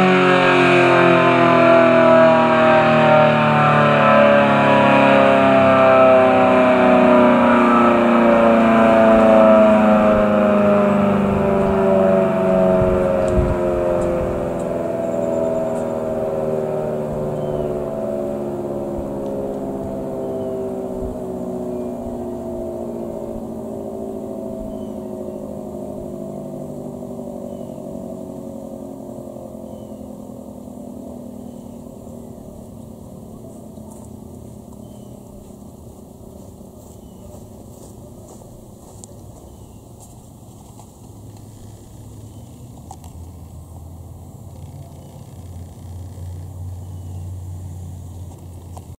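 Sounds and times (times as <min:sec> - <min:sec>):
storm siren steady tone: 0:00.0 - 0:48.9.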